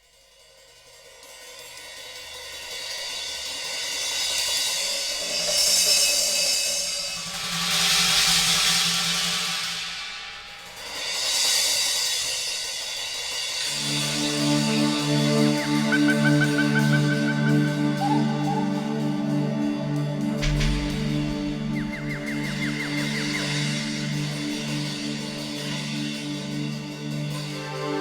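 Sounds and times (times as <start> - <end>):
cymbal washes: 3.0 - 28.0.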